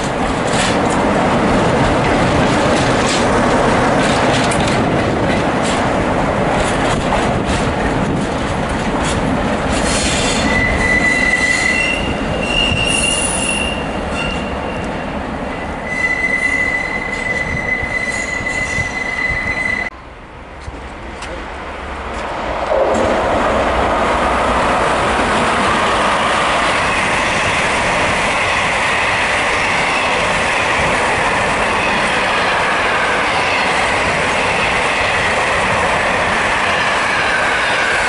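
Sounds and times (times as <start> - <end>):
diesel locomotive engine: 0.0 - 38.0.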